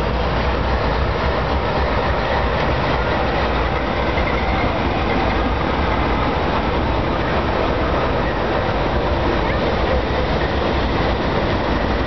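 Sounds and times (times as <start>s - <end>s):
diesel locomotive engines throbbing: 0.0s - 12.0s
train wheels on rails: 0.0s - 12.0s.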